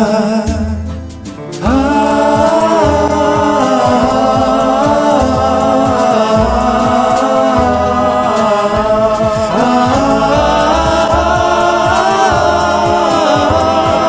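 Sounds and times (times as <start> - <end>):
moving bass line: 0.0 - 14.0.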